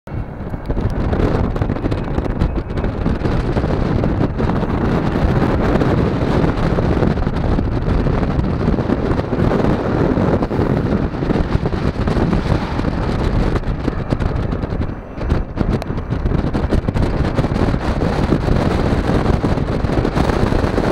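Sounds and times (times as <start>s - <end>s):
wind buffeting microphone: 0.1s - 20.9s.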